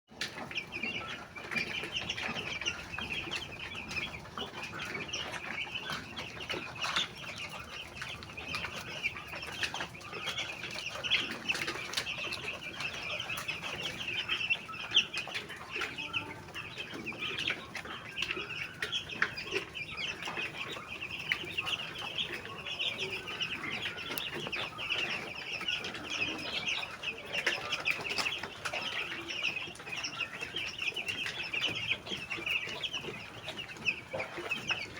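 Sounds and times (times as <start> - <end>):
chicken clucks: 0.1 - 34.9
chickens chattering: 0.1 - 34.9.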